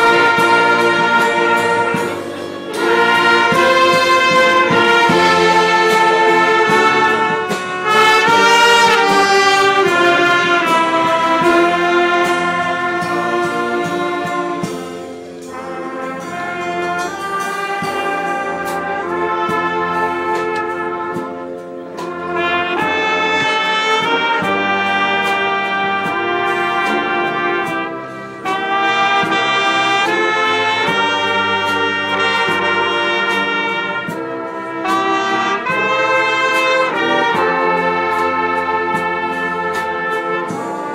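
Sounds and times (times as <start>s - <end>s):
concert band playing chords: 0.0s - 40.9s.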